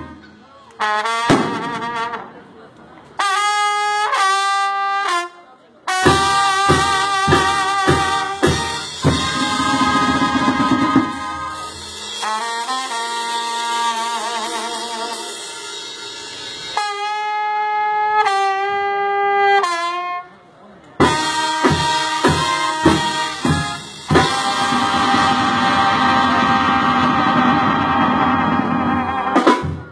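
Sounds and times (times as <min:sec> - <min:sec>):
brass band playing: 0:00.0 - 0:20.4, 0:21.0 - 0:29.9.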